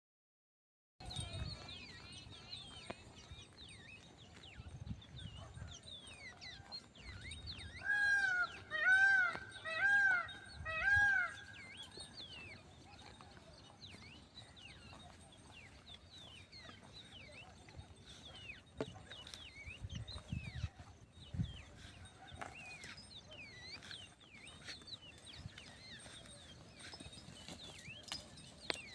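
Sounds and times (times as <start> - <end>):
small birds chirping: 1.0 - 28.9.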